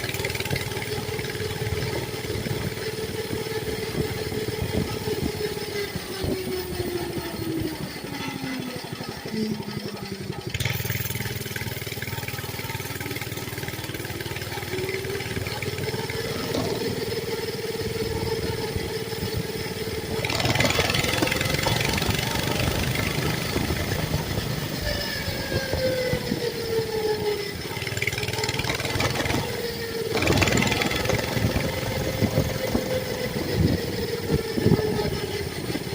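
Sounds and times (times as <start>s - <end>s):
small motorbike engine running: 0.0s - 35.9s.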